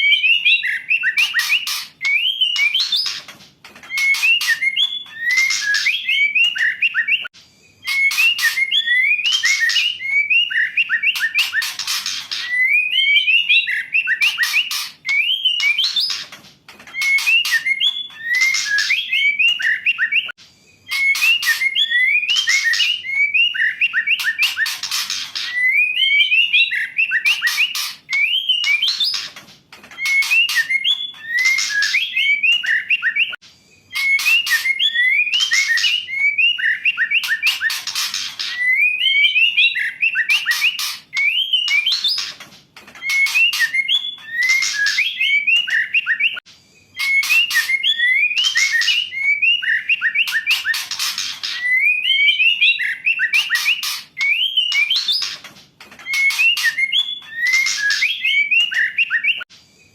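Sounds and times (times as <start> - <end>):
bird whistled calls and chatter: 0.0 - 59.9.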